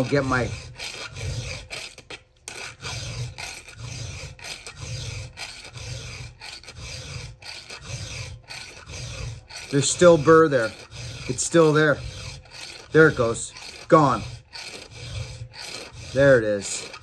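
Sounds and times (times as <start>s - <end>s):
file rasping on chainsaw chain: 0.0s - 17.0s.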